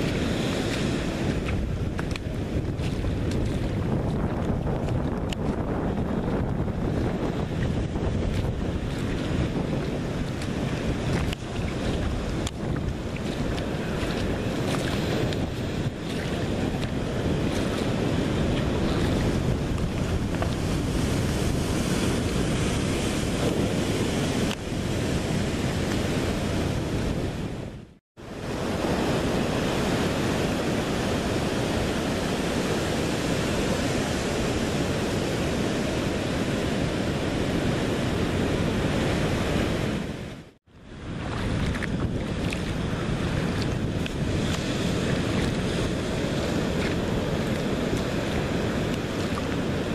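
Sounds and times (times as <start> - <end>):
ocean surf: 0.0 - 49.9
wind buffeting microphone: 0.0 - 49.9.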